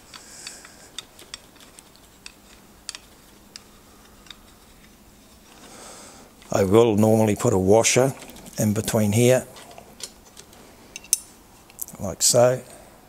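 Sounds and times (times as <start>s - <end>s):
small steel parts clicking: 0.0s - 6.6s, 8.0s - 11.9s.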